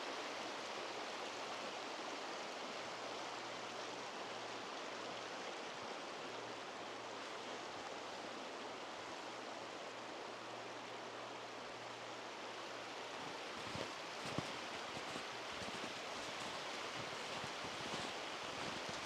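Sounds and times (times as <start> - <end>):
stream water rushing: 0.1 - 19.0.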